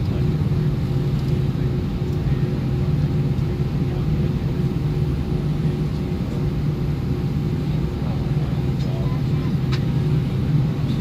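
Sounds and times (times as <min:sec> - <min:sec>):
airplane cabin engine hum: 0:00.0 - 0:11.0
constant low tones: 0:00.0 - 0:11.0.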